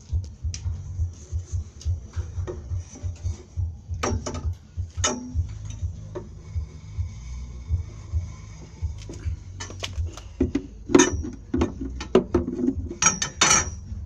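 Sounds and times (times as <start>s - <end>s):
low pulsing hum: 0.0s - 14.0s.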